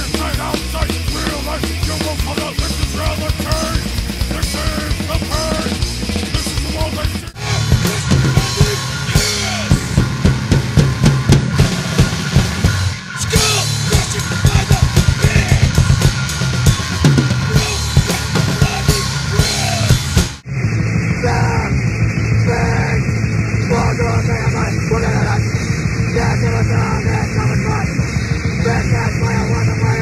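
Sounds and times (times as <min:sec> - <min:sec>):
rapid drum kit playing: 0:00.0 - 0:20.4, 0:22.3 - 0:30.0
fast loud hardcore punk: 0:00.0 - 0:30.0.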